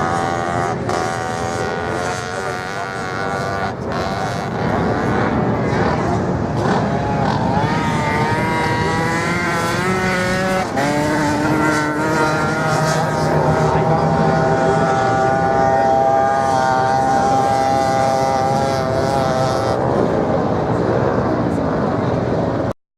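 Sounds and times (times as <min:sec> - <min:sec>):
racing motorcycle engine revving: 0:00.0 - 0:22.0.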